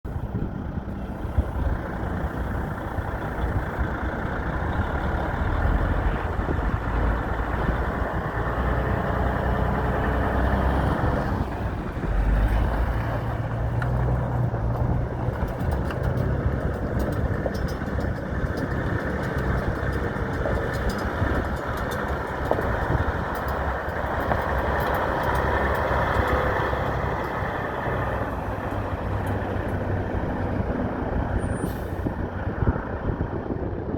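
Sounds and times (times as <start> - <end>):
diesel truck engine rumbling: 0.0 - 33.9.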